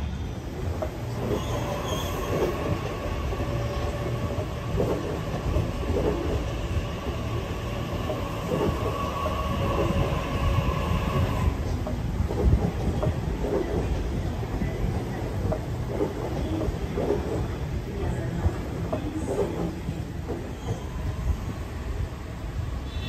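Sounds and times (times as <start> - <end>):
train rumble: 0.0 - 23.0
train whine: 0.0 - 23.0
wheels clacking over rail joints: 0.6 - 20.9.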